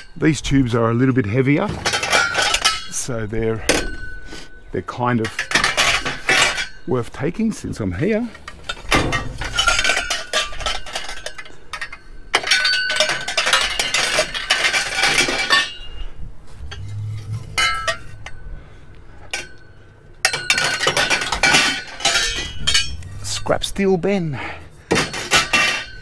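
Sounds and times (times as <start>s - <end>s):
steel tubes clanking: 0.0s - 26.0s.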